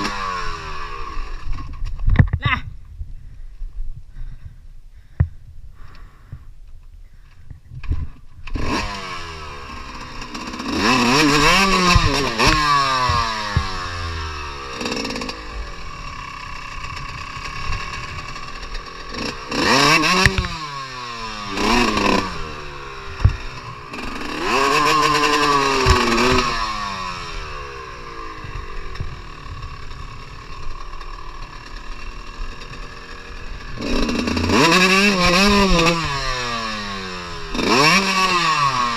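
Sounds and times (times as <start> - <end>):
dirt bike engine revving: 0.0 - 1.6, 8.4 - 38.9.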